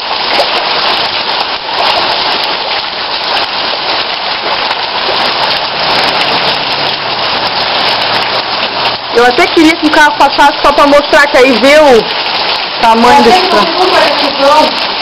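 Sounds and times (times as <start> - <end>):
heavy rain pouring on flooded street: 0.0 - 15.0.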